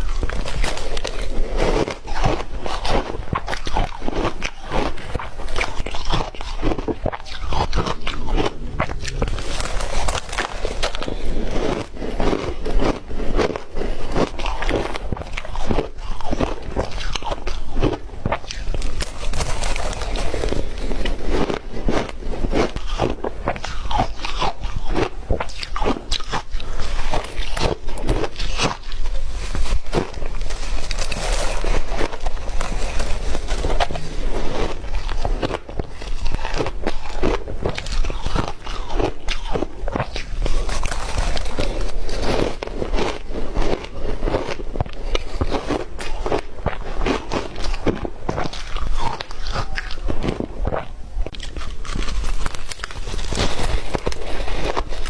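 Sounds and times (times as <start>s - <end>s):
ice crunching between teeth: 0.0s - 55.0s.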